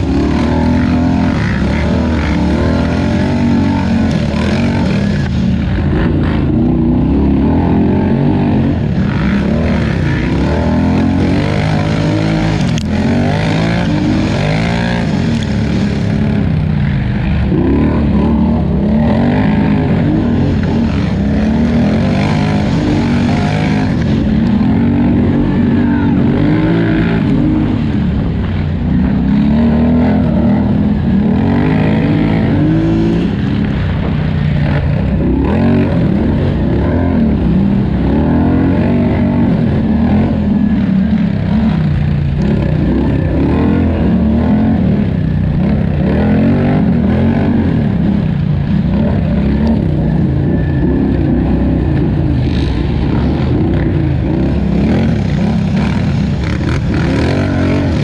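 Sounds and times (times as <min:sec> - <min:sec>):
engine revving up and down: 0:00.0 - 0:58.0.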